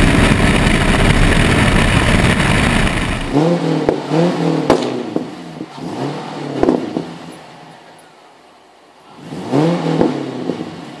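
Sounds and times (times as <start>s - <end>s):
car engine revving: 0.0s - 7.9s, 9.0s - 11.0s
exhaust crack: 0.0s - 7.9s, 9.2s - 11.0s
engine idling: 0.0s - 9.2s.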